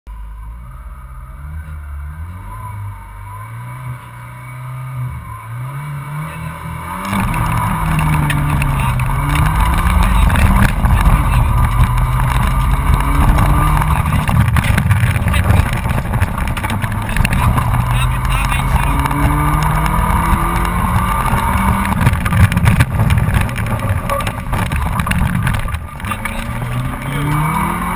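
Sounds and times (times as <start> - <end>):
car engine revving: 0.1 - 27.9
tyre and road noise: 0.1 - 27.9.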